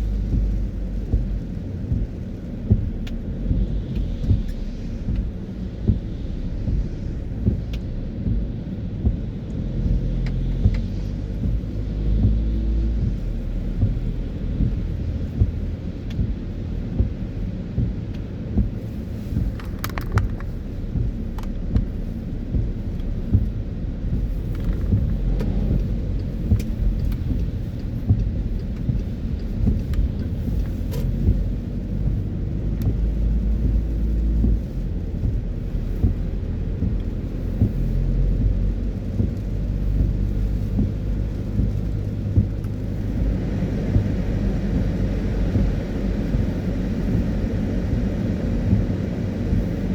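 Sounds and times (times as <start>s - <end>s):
rain: 0.0s - 49.9s
road and engine rumble: 0.0s - 49.9s.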